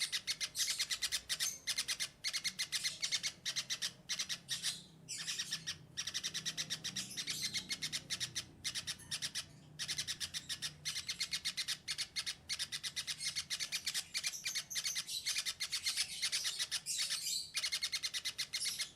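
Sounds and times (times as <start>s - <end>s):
small birds chattering: 0.0s - 18.9s.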